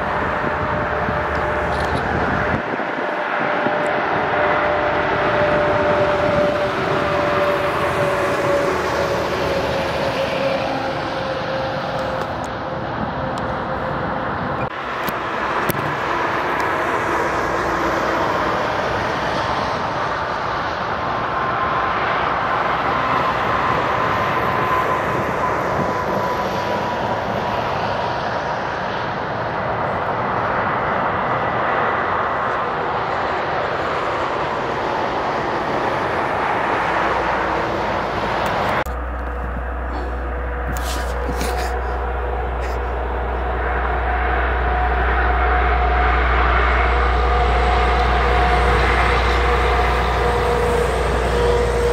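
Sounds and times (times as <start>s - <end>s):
falling engine whine: 0.0s - 51.9s
highway traffic: 0.0s - 51.9s.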